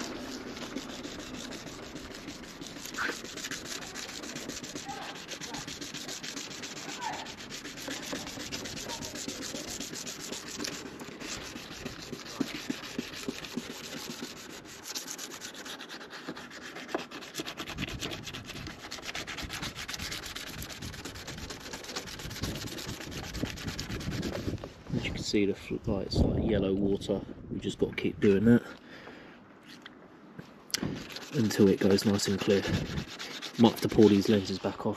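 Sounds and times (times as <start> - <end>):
sanding disc rubbing plastic: 0.0 - 24.7, 30.8 - 34.9.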